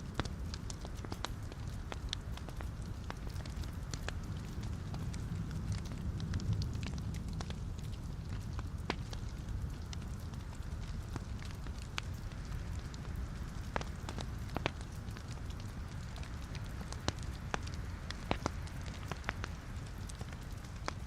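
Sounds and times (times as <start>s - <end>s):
flame rumble: 0.0s - 21.0s
wood crackling and popping: 0.0s - 21.0s.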